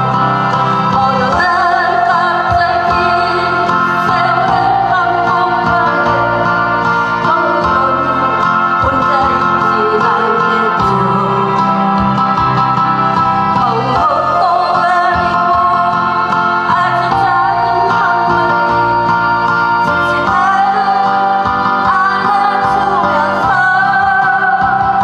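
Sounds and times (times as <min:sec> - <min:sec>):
woman singing a ballad: 0:00.0 - 0:12.1, 0:13.4 - 0:25.0
backing track: 0:00.0 - 0:25.0.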